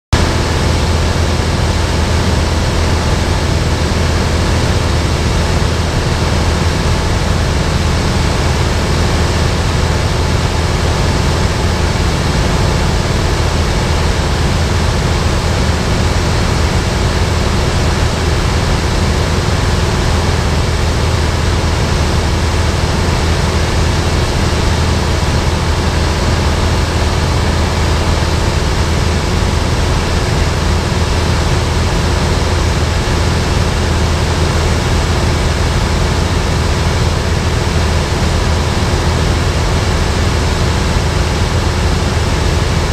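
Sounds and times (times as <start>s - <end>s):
propeller aircraft engine drone: 0.2s - 42.9s.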